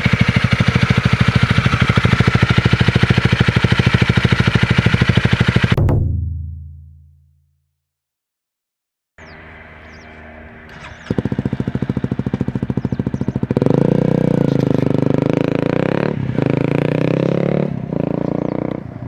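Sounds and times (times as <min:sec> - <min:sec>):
motorcycle engine revving: 0:00.0 - 0:06.3, 0:09.2 - 0:19.0.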